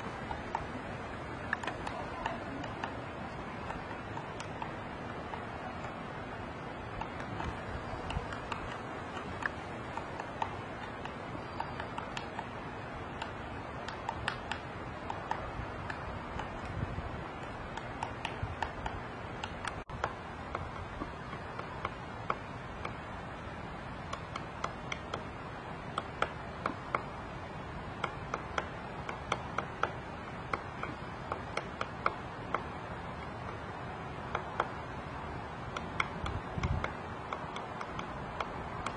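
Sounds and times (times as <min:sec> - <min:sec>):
woodpecker knocking on wood: 0:00.0 - 0:23.1, 0:24.0 - 0:27.2, 0:27.8 - 0:38.9
background hiss: 0:00.0 - 0:38.9.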